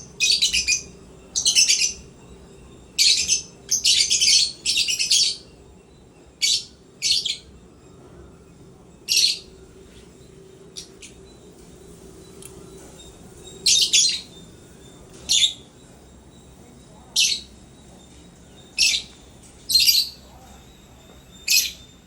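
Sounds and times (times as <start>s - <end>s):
lovebirds chirping: 0.0s - 22.0s.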